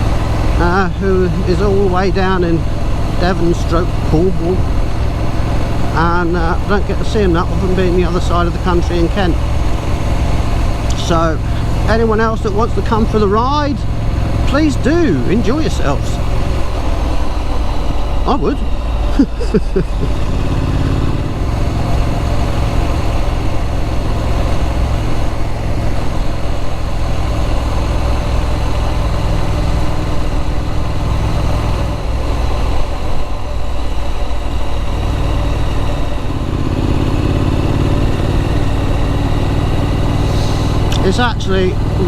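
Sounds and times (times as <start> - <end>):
motorcycle engine while riding: 0.0 - 42.0.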